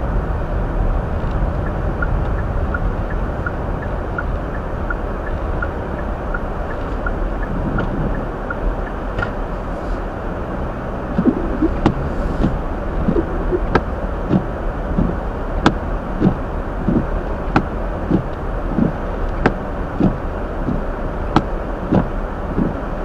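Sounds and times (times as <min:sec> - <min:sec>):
car cabin rumble: 0:00.0 - 0:23.0.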